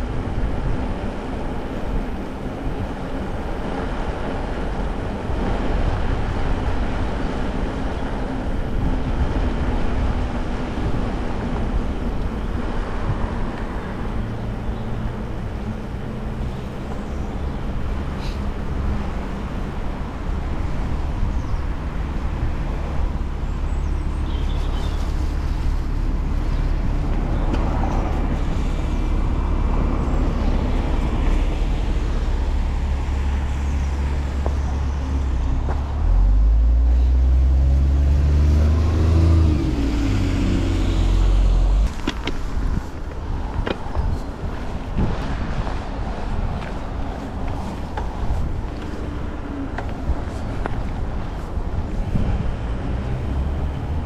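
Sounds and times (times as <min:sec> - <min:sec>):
bike tyres on road: 0:00.0 - 0:54.0
motor traffic passing: 0:00.0 - 0:54.0
wind rumble on camera: 0:00.0 - 0:54.0.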